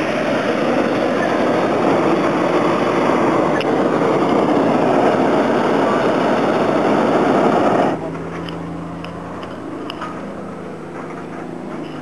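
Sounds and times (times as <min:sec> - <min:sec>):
propane burner blast: 0:00.0 - 0:12.0.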